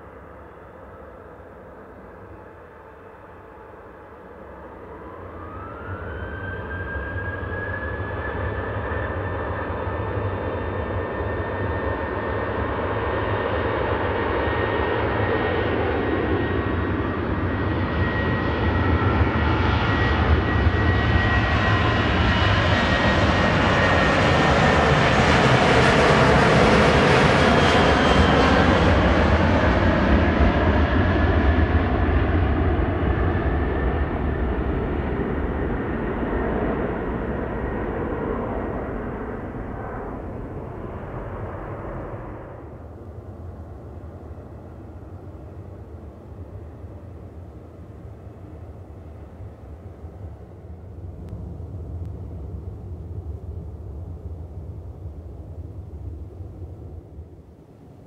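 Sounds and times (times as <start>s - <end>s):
jet engines at takeoff thrust: 0.0s - 58.0s.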